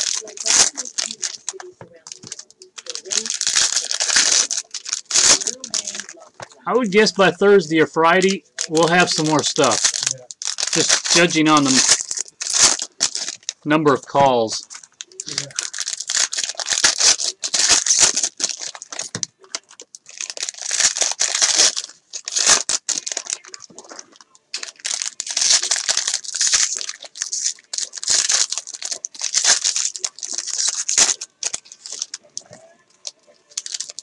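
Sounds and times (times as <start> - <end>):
foil wrappers tearing and crinkling: 0.0 - 34.0.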